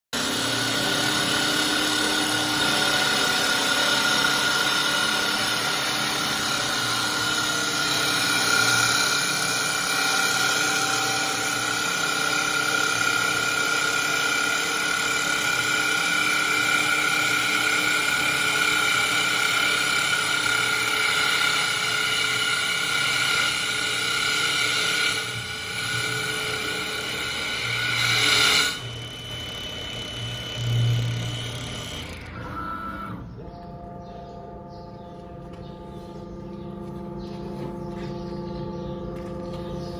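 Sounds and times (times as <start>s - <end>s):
wood lathe machine whine: 0.2s - 39.9s.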